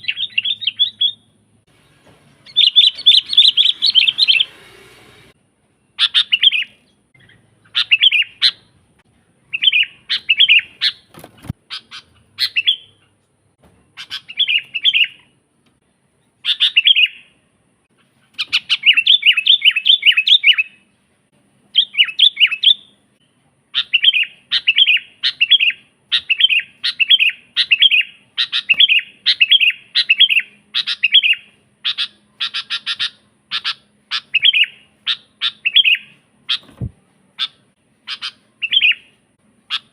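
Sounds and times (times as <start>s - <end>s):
bulbul singing: 0.0s - 8.8s, 9.4s - 13.2s, 13.9s - 15.4s, 16.4s - 17.4s, 18.3s - 21.0s, 21.7s - 39.9s.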